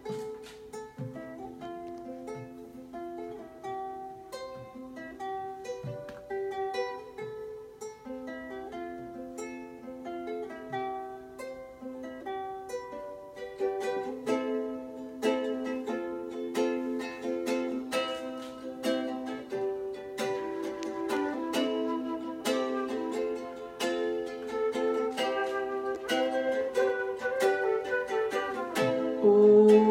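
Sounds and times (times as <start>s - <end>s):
ukulele playing: 0.0s - 29.9s.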